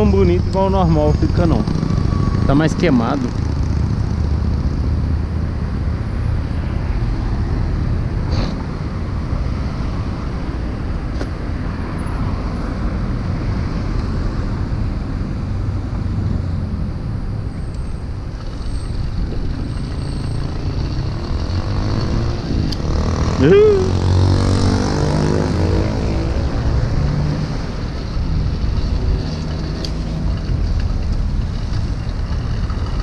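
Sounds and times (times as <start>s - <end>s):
low rumble of road traffic: 0.0s - 33.0s.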